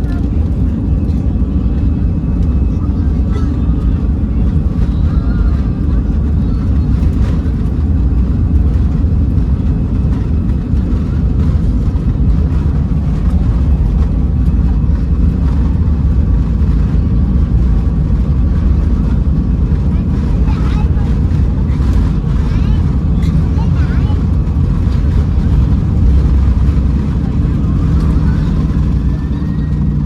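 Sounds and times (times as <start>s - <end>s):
aircraft cabin low rumble: 0.0s - 30.0s.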